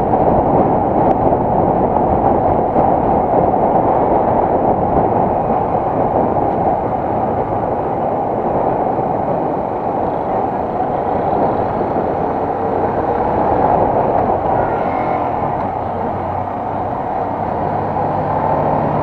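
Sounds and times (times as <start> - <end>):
wind rushing over microphone: 0.0 - 19.0
motorcycle engine running: 0.3 - 19.0.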